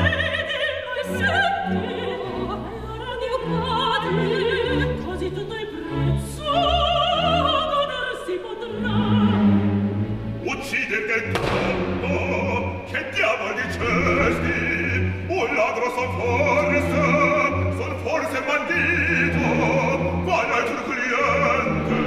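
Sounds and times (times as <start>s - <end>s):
full orchestra: 0.0s - 22.0s
operatic singing with vibrato: 0.0s - 22.0s.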